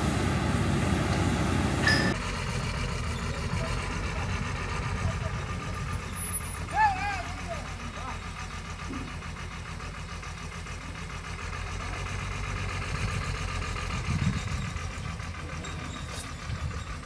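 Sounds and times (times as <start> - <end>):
diesel engine idling with rattle: 0.0 - 17.0.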